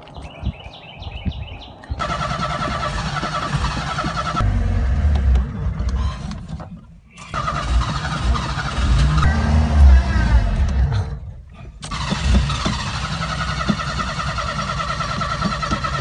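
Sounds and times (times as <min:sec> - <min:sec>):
car engine revving and stalling: 0:02.0 - 0:16.0
car starter cranking: 0:02.0 - 0:16.0.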